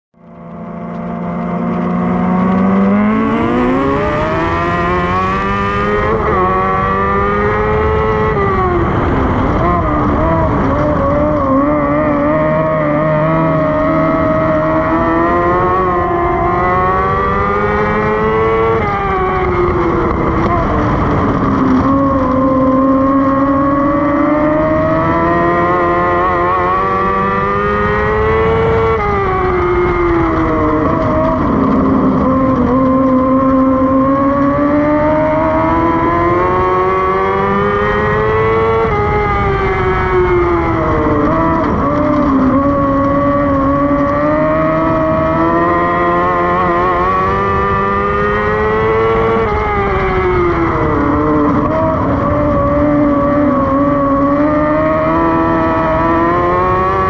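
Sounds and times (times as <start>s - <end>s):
race car engine revving: 0.2s - 57.0s.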